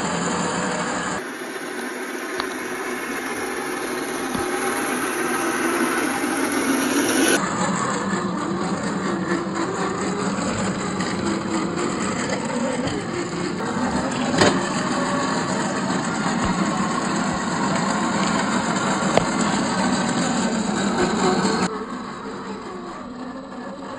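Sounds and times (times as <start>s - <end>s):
toy car electric motor whirring: 0.0s - 23.9s.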